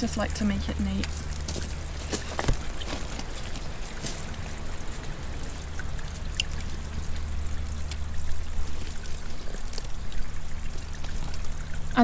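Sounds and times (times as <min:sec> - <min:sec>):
seawater washing over pebbles: 0:00.0 - 0:12.0.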